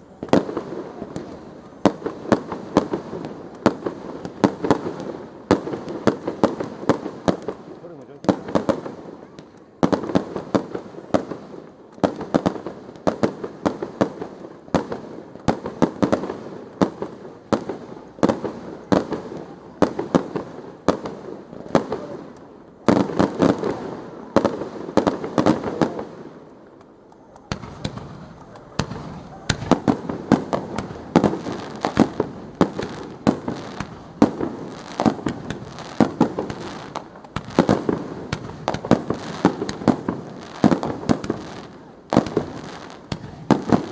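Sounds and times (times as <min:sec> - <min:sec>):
fireworks bursting with bangs: 0:00.0 - 0:43.9.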